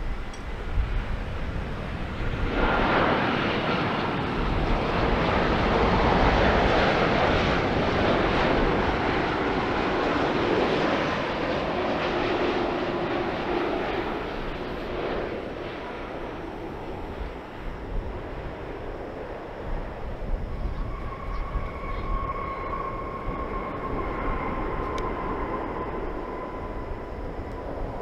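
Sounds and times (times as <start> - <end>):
faint jet engine whine: 0.0 - 28.0
jet airliner rumble: 0.0 - 28.0.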